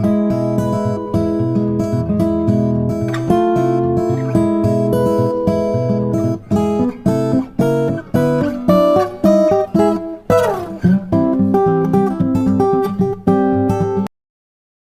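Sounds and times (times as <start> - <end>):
acoustic guitar music: 0.0 - 14.1.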